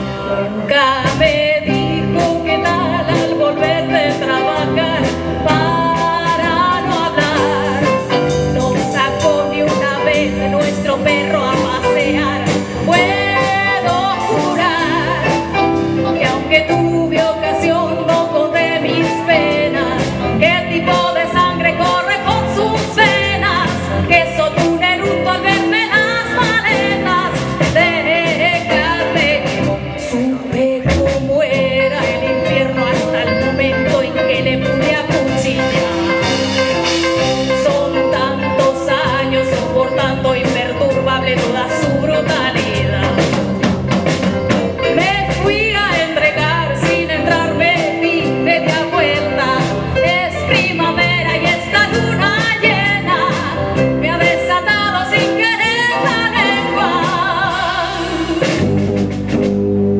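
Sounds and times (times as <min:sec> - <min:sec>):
electric guitar lead: 0:00.0 - 0:59.9
rhythm section with beat: 0:01.0 - 0:59.9.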